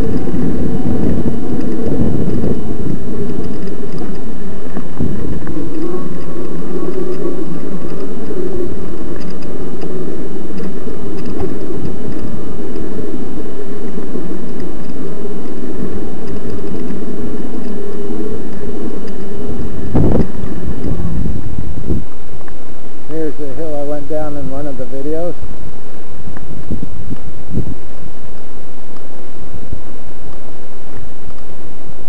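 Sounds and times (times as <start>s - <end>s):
wind buffeting microphone: 0.0s - 30.2s
low rumble of bike ride: 0.0s - 32.0s.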